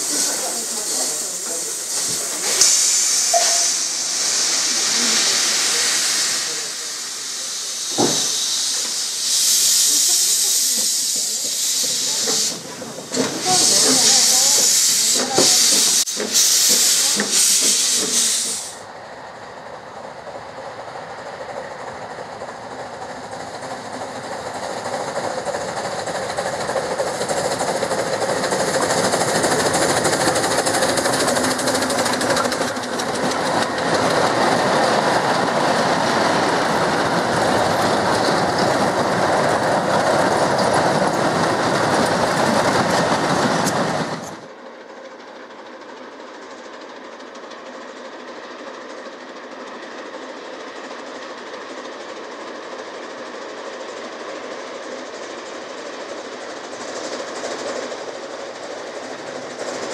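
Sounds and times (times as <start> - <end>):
steam locomotive hissing: 0.0 - 59.9
train rumble and clatter: 0.0 - 59.9.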